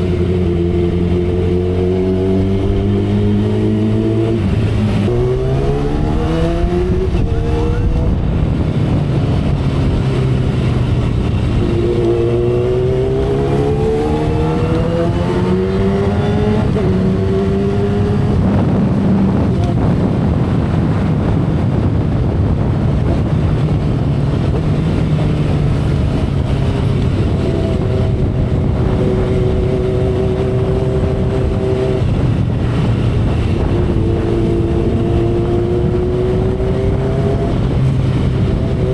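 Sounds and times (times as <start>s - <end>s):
heavy wind rush: 0.0s - 38.9s
motorcycle engine pulling hard: 0.0s - 38.9s.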